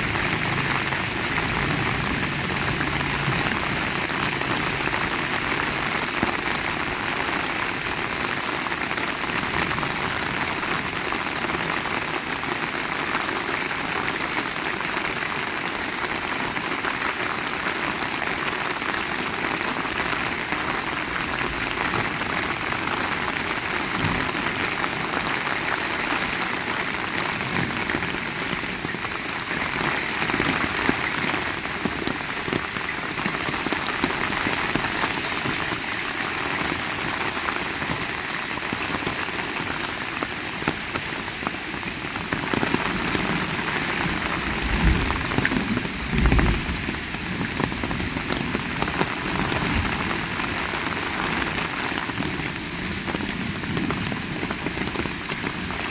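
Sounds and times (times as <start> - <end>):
heavy rain hissing: 0.0 - 55.9.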